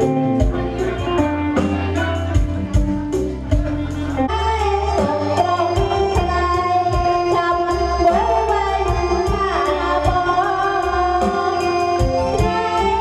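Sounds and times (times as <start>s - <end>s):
percussion beat: 0.0s - 13.0s
person singing: 0.0s - 13.0s.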